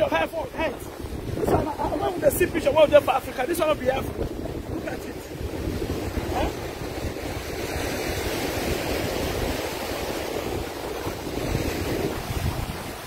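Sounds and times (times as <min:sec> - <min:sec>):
waves breaking on shore: 0:00.0 - 0:13.0
wind rumbling on microphone: 0:00.0 - 0:13.0.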